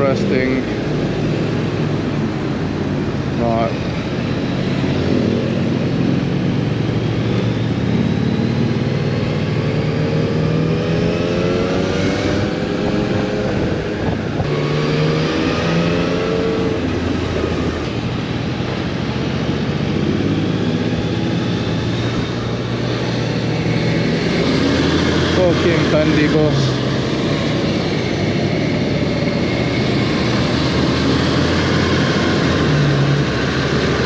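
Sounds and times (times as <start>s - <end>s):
motorcycle engine revving: 0.0s - 34.0s
road and wind noise: 0.0s - 34.0s.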